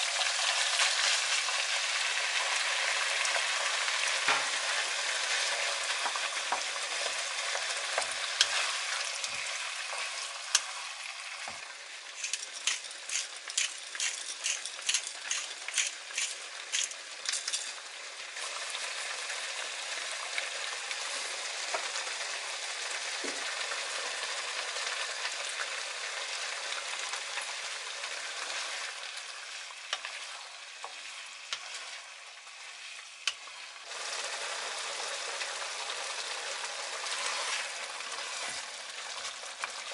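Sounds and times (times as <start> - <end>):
sauce sizzling and bubbling: 0.0 - 39.9.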